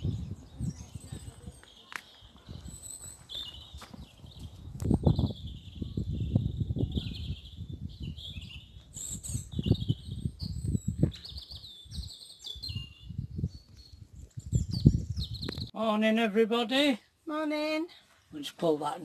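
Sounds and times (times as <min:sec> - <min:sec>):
songbirds warbling and trilling: 0:00.0 - 0:15.8.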